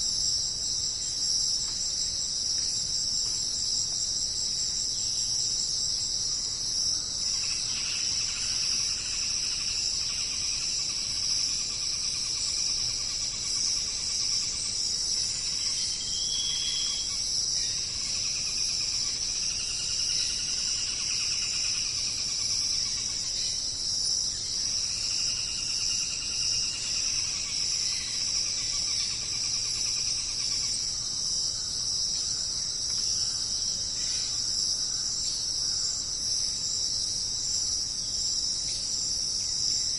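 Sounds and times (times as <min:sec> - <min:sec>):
chorus of insects: 0:00.0 - 0:39.9.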